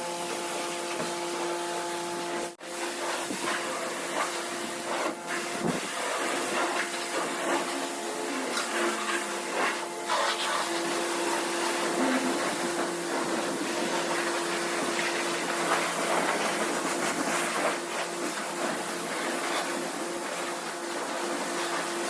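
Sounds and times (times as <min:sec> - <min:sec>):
pressure wand spraying water: 0:00.0 - 0:22.0.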